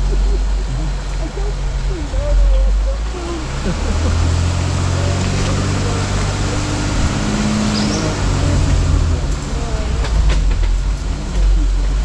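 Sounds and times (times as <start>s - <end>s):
road and tyre noise: 0.0s - 12.0s
vehicle engine at low revs: 0.0s - 12.0s.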